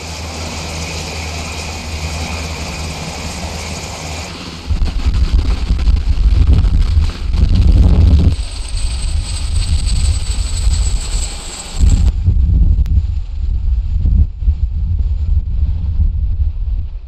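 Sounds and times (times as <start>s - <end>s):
faint high whine: 0.0s - 15.8s
loud low-pitched engine: 0.0s - 17.0s.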